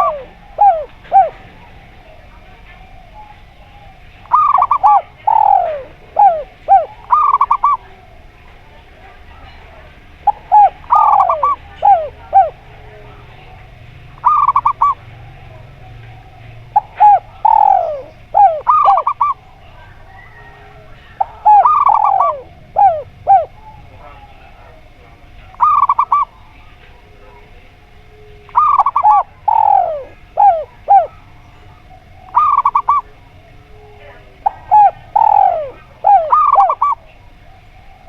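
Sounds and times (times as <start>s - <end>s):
doves cooing: 0.0s - 38.0s.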